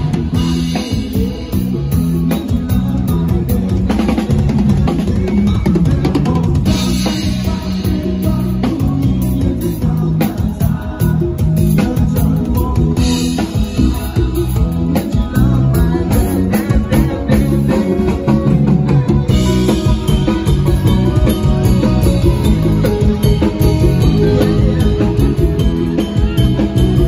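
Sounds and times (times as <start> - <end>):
bass line: 0.0 - 27.0
drum kit playing: 0.0 - 27.0
electric guitar playing: 0.0 - 27.0
person singing: 0.0 - 27.0.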